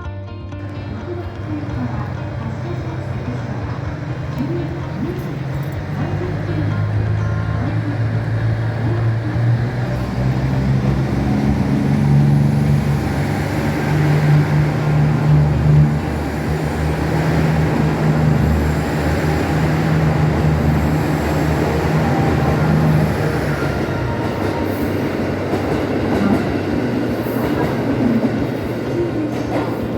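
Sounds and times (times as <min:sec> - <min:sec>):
diesel railcar engine drone: 0:00.6 - 0:29.9.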